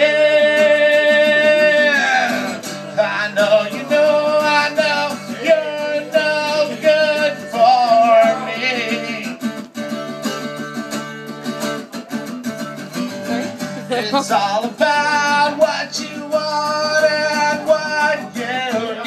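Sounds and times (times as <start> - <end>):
man singing: 0.0 - 9.6, 13.0 - 19.0
acoustic guitar strumming: 0.0 - 19.0.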